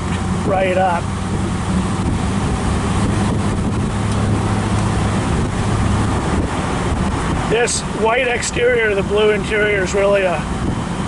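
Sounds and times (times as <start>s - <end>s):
car engine humming: 0.0s - 11.0s
road and wind noise: 0.0s - 11.0s.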